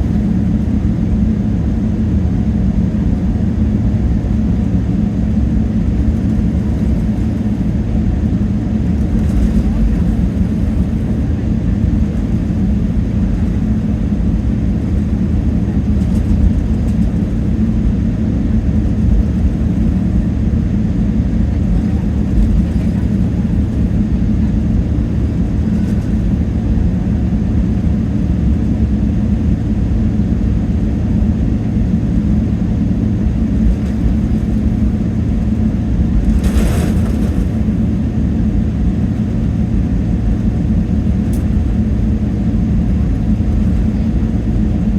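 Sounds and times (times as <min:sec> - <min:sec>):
air rushing along fuselage: 0:00.0 - 0:44.9
jet engine hum: 0:00.0 - 0:44.9.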